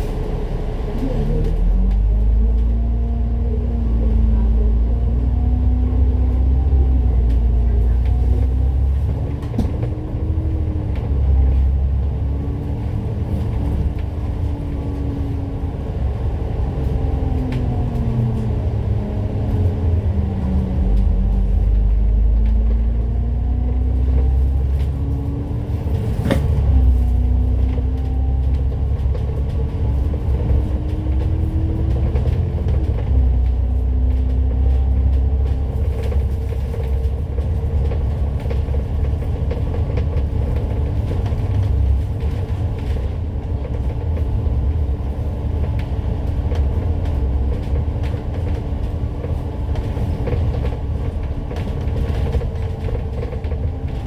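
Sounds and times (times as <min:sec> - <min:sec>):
bus engine pulling away: 0:00.0 - 0:54.0.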